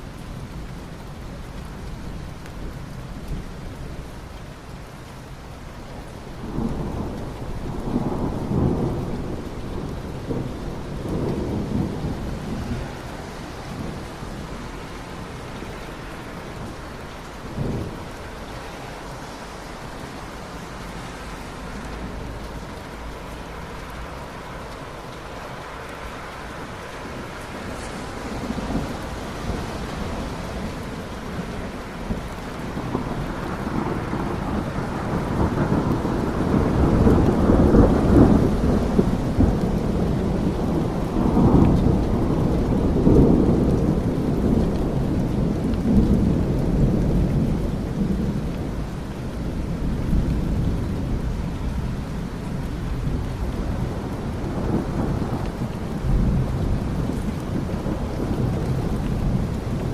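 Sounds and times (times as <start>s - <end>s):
steady rain: 0.0s - 59.9s
thunder rumbling: 6.3s - 59.9s.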